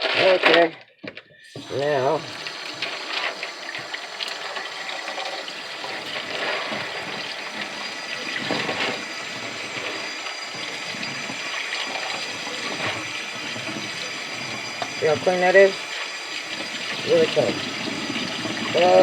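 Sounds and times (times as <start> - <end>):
tap water running into plastic bowl: 1.5 - 19.0
water splashing: 1.5 - 19.0.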